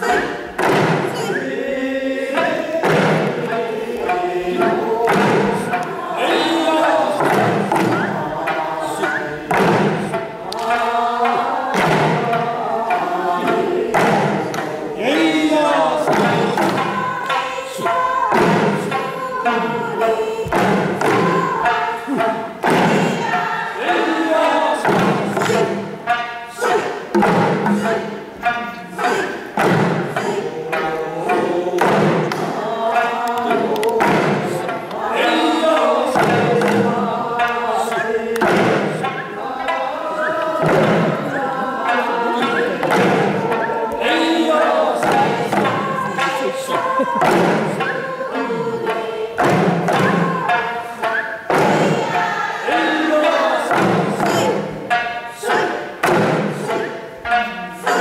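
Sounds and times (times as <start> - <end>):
singers chanting into a microphone: 0.0 - 58.0
small hand drums struck: 0.1 - 1.4, 2.3 - 58.0.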